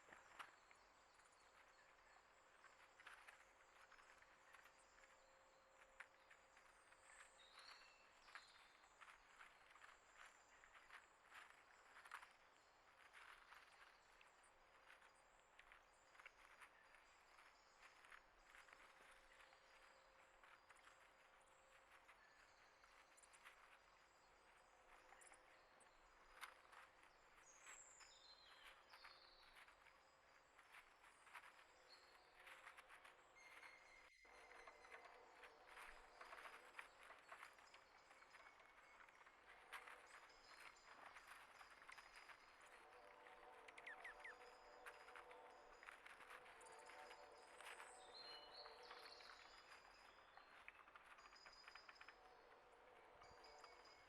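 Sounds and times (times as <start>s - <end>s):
small ticks and scratches: 0.0s - 52.3s.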